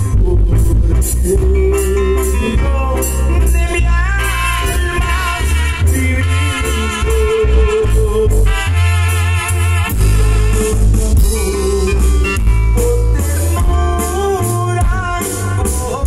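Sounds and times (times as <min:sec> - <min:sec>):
heavy bass line: 0:00.0 - 0:16.0
live band through speakers: 0:00.0 - 0:16.0.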